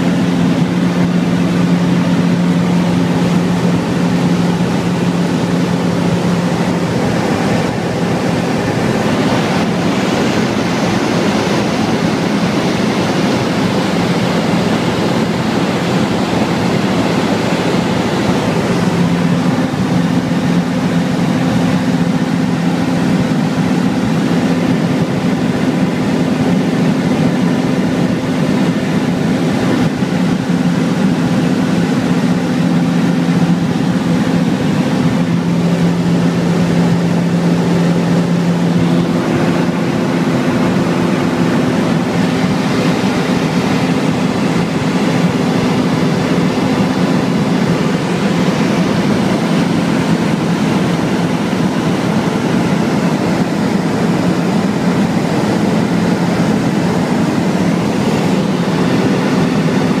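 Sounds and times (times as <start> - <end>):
aircraft engine drone: 0.0 - 60.0
rushing airflow: 0.0 - 60.0.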